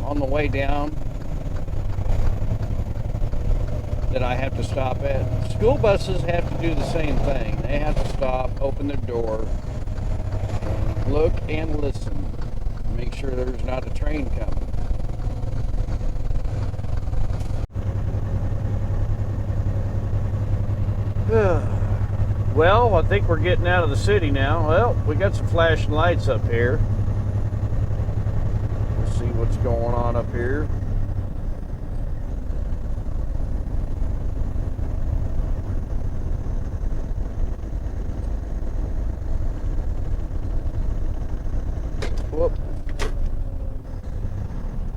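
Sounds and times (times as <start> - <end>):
road noise: 0.0 - 44.9
truck diesel engine hum: 0.0 - 44.9.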